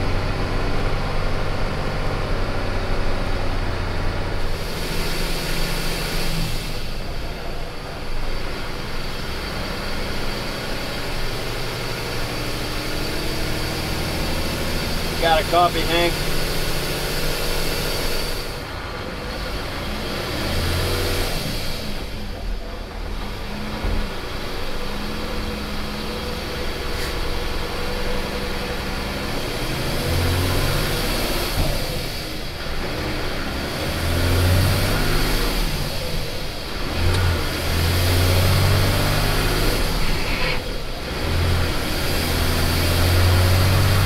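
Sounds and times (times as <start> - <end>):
truck diesel engine accelerating: 0.0 - 44.0.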